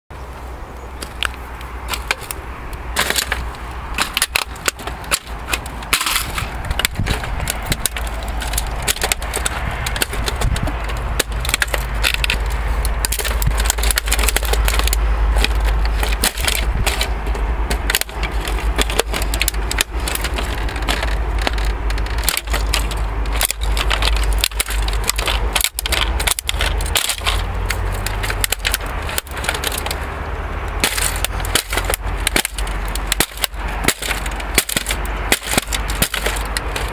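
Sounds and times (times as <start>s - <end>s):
steady low rumble: 0.1s - 36.9s
plastic casing cracking under boots: 1.0s - 36.9s.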